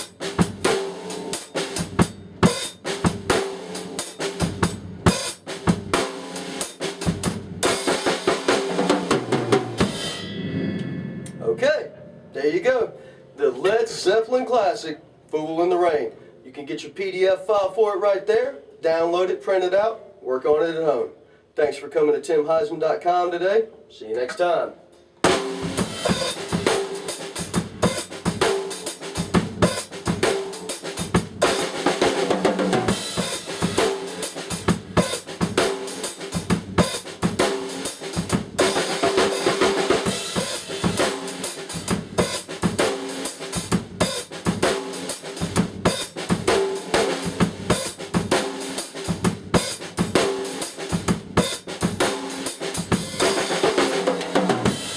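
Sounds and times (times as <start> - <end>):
drum kit groove: 0.0 - 14.6, 25.2 - 54.9.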